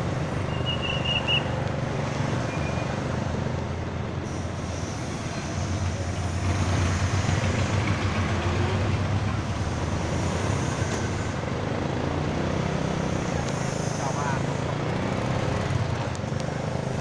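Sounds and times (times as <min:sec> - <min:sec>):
engine hum: 0:00.0 - 0:17.0
road noise: 0:00.0 - 0:17.0.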